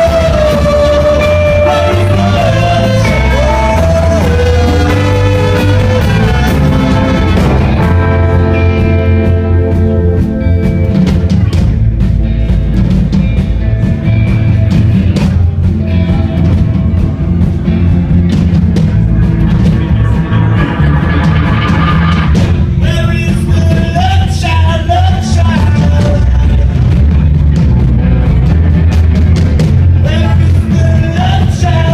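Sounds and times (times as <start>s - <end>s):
live rock band music: 0.0s - 31.9s.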